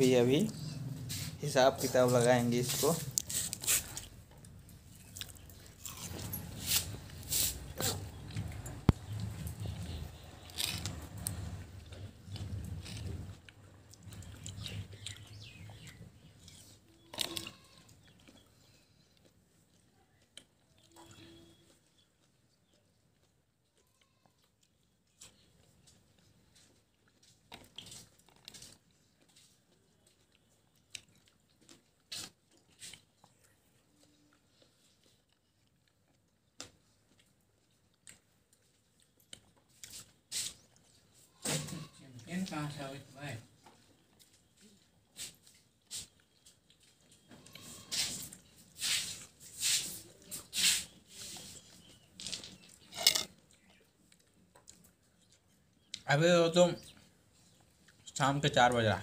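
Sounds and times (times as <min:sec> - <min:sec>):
person chewing watermelon: 0:00.1 - 0:56.0, 0:56.8 - 0:58.2.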